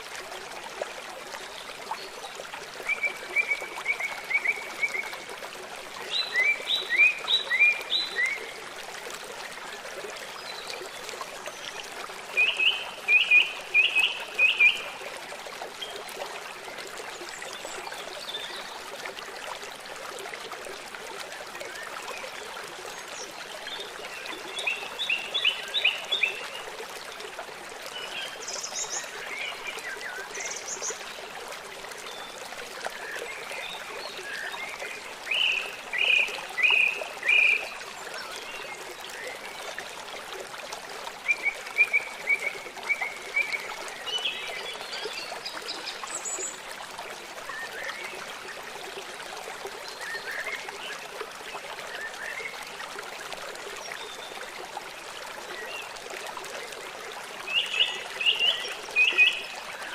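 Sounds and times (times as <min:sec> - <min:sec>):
river running: 0:00.0 - 0:59.9.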